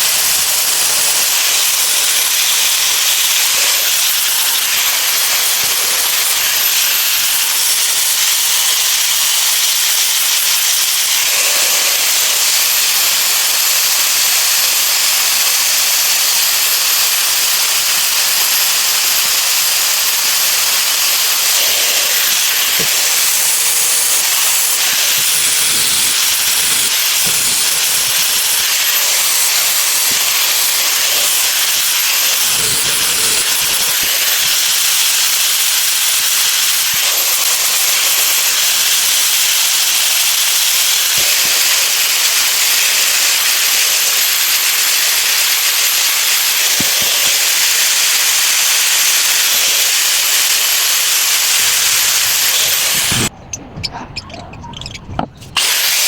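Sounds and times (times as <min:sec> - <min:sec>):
loud steady hiss: 0:00.0 - 0:53.3.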